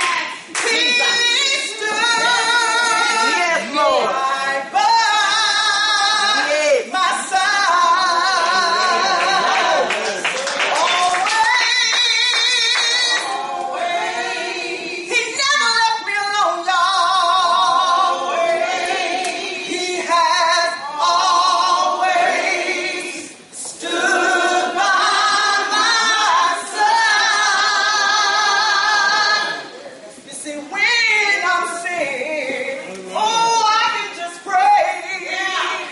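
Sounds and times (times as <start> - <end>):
woman singing unaccompanied: 0.0 - 10.0, 10.8 - 29.6, 30.3 - 35.9.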